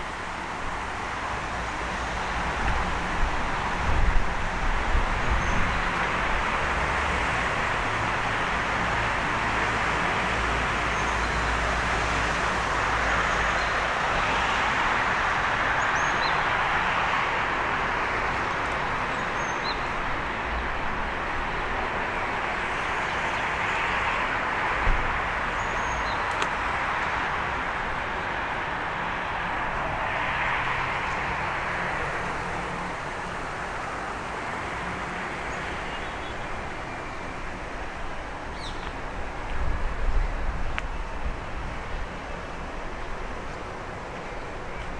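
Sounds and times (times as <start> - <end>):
city traffic noise: 0.0 - 44.9.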